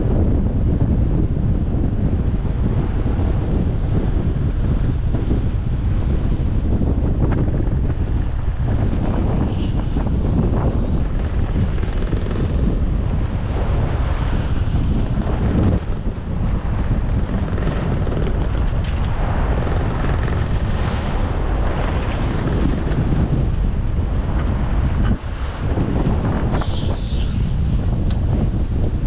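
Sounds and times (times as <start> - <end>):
waves rushing along hull: 0.0 - 29.0
wind buffeting microphone: 0.0 - 29.0.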